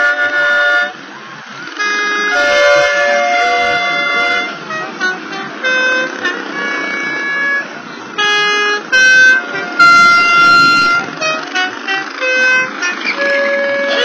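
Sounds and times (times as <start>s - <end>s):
toy car horns tooting: 0.0s - 14.0s.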